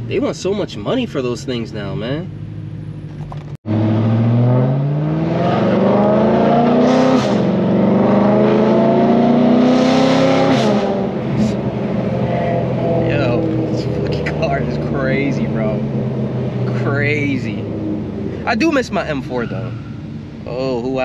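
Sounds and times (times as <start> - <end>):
loud engine accelerating with upshifts: 0.0 - 21.0.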